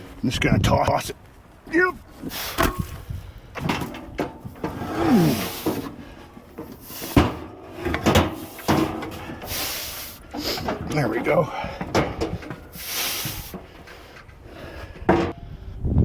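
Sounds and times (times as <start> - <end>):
metal scraping: 1.7 - 15.4
metal clunks and knocks: 2.0 - 15.4.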